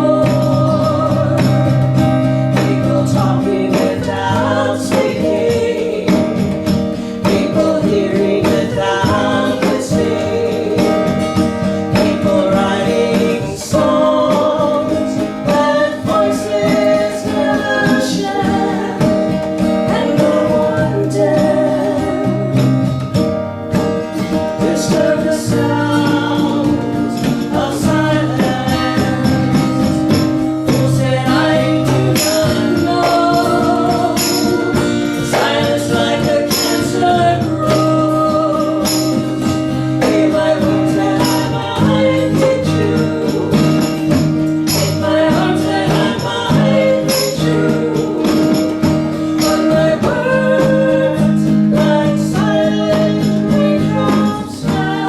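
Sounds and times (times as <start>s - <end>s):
person singing: 0.0s - 23.1s, 23.8s - 55.0s
bass notes: 0.0s - 55.0s
guitar: 0.0s - 55.0s
tambourine beat: 0.0s - 55.0s.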